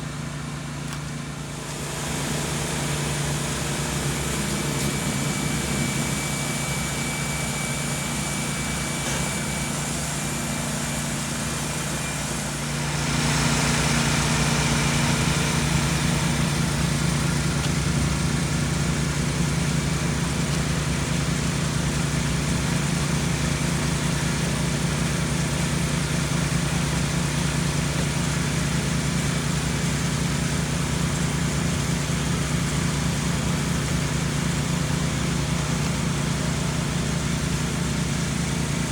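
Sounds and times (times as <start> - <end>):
engine running with hum and hiss: 0.0 - 38.9.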